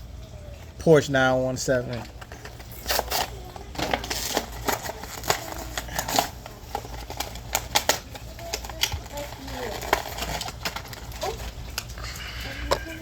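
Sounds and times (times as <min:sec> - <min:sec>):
packaging crackling and snapping: 0:02.0 - 0:12.9.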